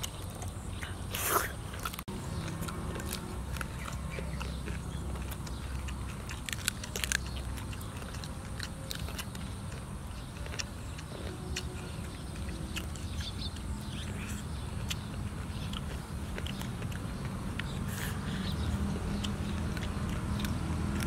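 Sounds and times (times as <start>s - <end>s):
boys chewing and lip smacking: 0.0s - 21.0s
sharp mouth clicks: 0.0s - 21.0s.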